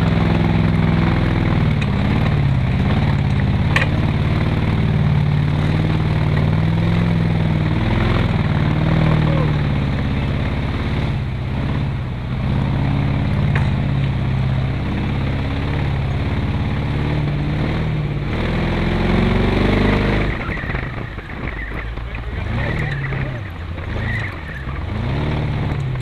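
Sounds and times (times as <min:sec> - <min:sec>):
engine revving under load: 0:00.0 - 0:26.0
rough rattling: 0:00.6 - 0:10.5, 0:11.5 - 0:26.0.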